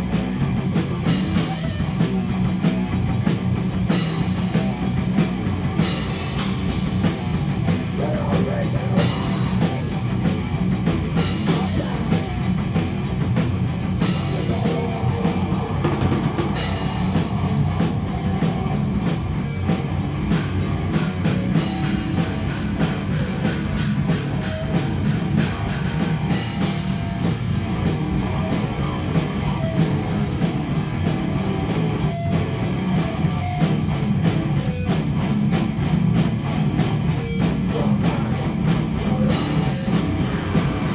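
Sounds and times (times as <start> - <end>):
rock drumming on drum kit: 0.0 - 40.9
steady low backing: 0.0 - 40.9.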